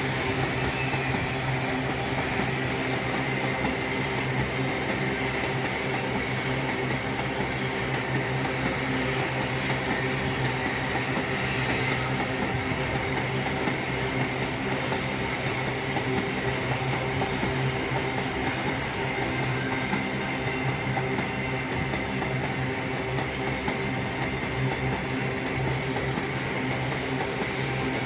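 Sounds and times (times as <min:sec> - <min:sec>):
freight train rolling over rails: 0:00.0 - 0:28.0.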